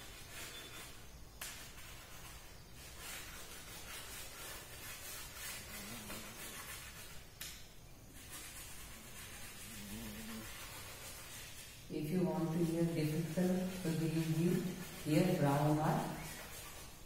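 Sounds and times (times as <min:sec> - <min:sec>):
chalk scratching on blackboard: 0:00.0 - 0:17.0.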